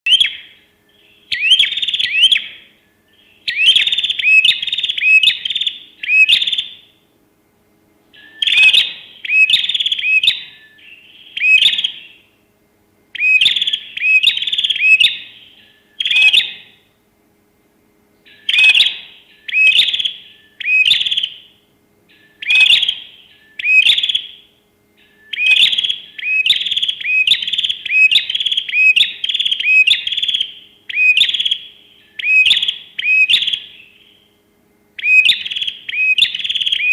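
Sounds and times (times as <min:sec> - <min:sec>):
bird calling: 0:00.1 - 0:07.0, 0:08.1 - 0:12.3, 0:13.1 - 0:16.9, 0:18.2 - 0:34.4, 0:35.0 - 0:36.9.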